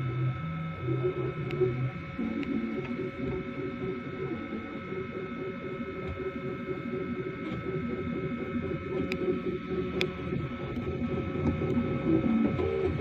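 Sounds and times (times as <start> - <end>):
high whine: 0.0 - 13.0
printer stepper motors: 0.7 - 13.0.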